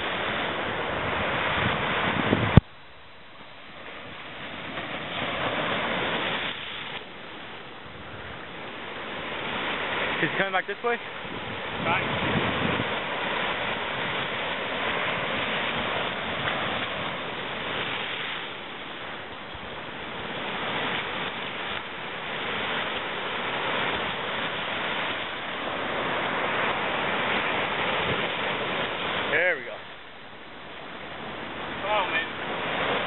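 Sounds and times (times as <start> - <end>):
surf washing over rocks: 0.0 - 33.0.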